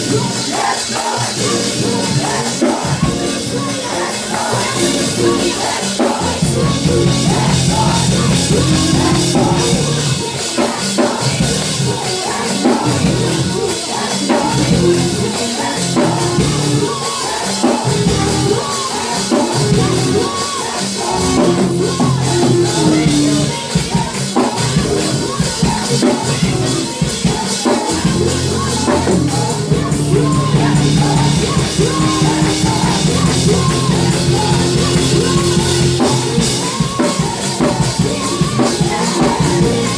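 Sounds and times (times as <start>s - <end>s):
band playing worship music: 0.0s - 39.9s
people singing: 0.0s - 39.9s.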